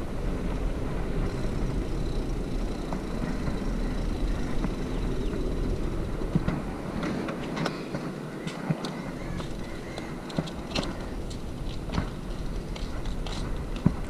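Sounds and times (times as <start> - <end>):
bike tyres rumbling on bricks: 0.0 - 14.0.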